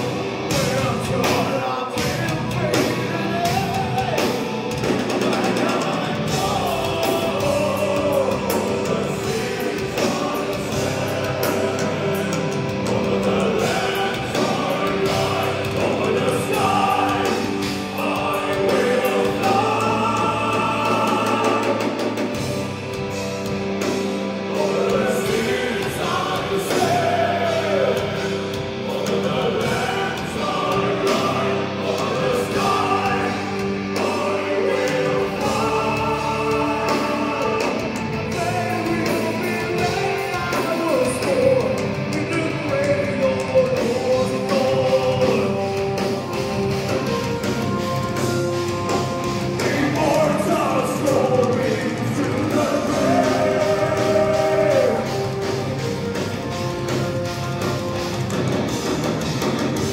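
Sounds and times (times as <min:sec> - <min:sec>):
person singing lead vocal: 0:00.0 - 0:57.0
live metal band playing: 0:00.0 - 0:59.9.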